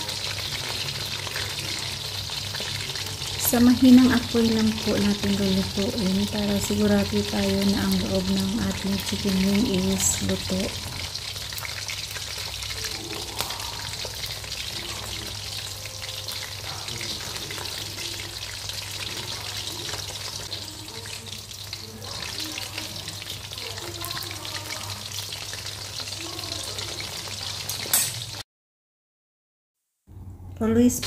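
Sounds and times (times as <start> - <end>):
chicken frying in oil: 0.0 - 28.4.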